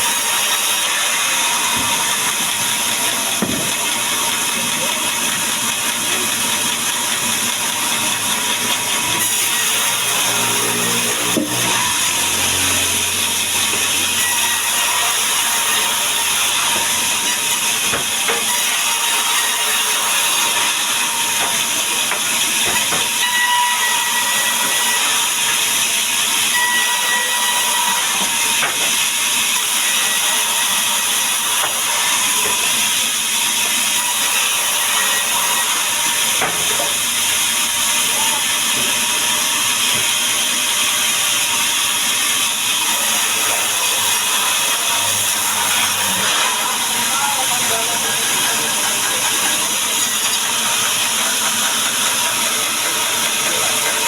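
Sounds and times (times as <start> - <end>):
power saw cutting timber: 0.0 - 54.0.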